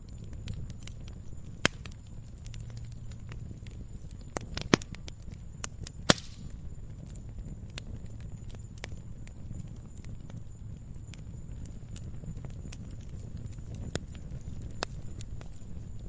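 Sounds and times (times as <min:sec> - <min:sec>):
logs crackling and popping: 0:00.0 - 0:16.0
wood fire rumbling: 0:00.0 - 0:16.0.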